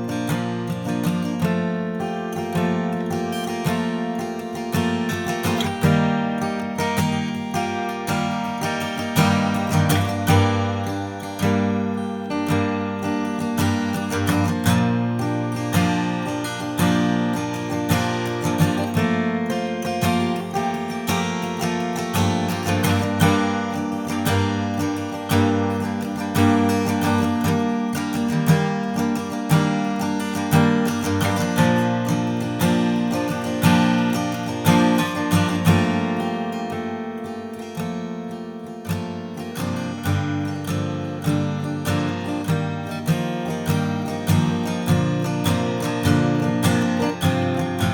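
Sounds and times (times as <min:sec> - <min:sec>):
acoustic guitar strummed and picked: 0:00.0 - 0:47.9.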